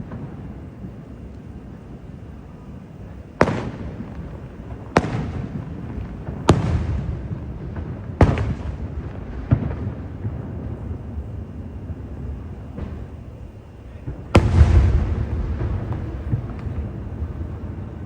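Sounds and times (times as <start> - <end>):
fireworks bangs: 0.0 - 18.0
rolling rumble: 0.0 - 18.0.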